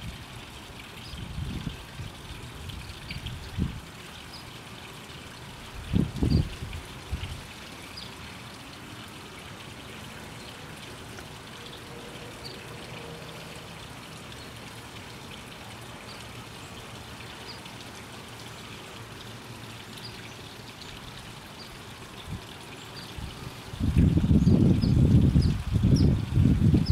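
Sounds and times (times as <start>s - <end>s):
fountain water trickling and splashing: 0.0s - 26.9s.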